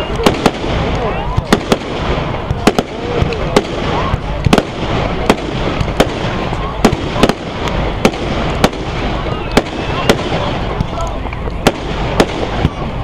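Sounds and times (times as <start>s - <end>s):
crowd voices: 0.0s - 13.0s
distant firework bursts rumble: 0.0s - 13.0s
firework bangs and cracks: 0.0s - 13.0s.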